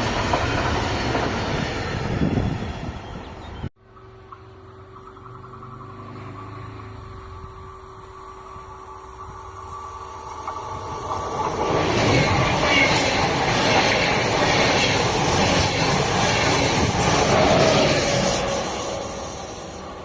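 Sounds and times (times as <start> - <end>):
train approaching: 0.0 - 20.0
train running past: 0.0 - 20.0.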